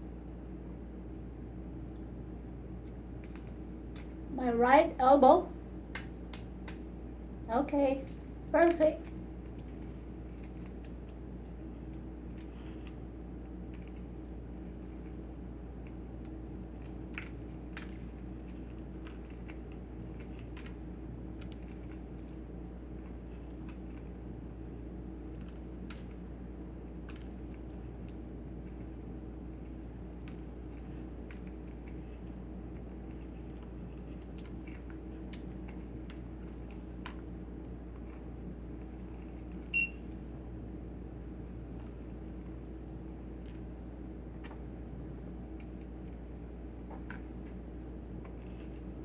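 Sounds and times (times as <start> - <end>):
steady low hum: 0.0 - 49.0
eggshell crackling as peeled: 5.6 - 7.4, 8.0 - 49.0.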